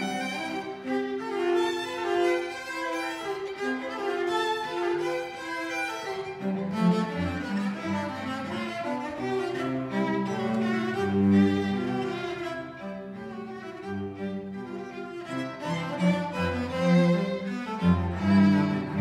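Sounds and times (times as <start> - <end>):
cello: 0.0 - 19.0
violin: 0.0 - 19.0.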